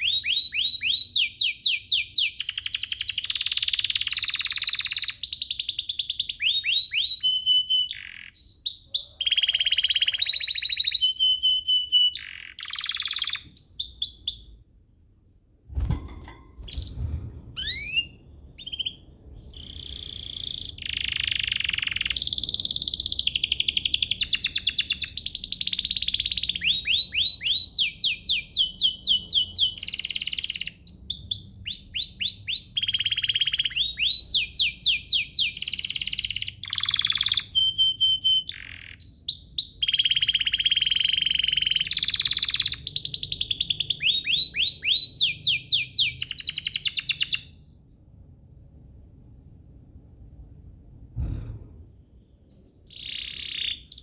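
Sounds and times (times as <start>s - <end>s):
canary singing: 0.0s - 14.7s, 17.6s - 47.8s, 52.5s - 54.0s.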